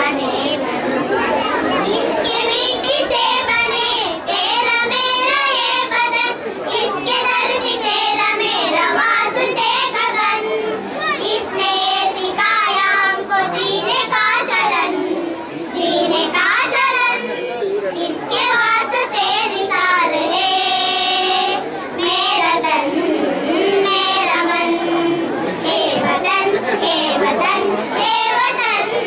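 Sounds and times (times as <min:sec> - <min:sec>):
girls singing into a microphone: 0:01.7 - 0:29.0.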